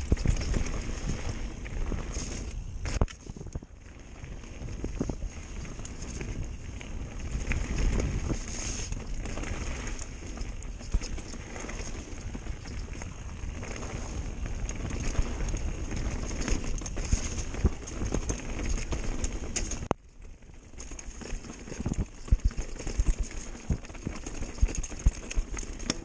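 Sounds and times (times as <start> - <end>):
bike knocks and rattles: 0.0 - 3.8, 4.6 - 26.0
bike tyres rumbling on dirt: 0.0 - 26.0.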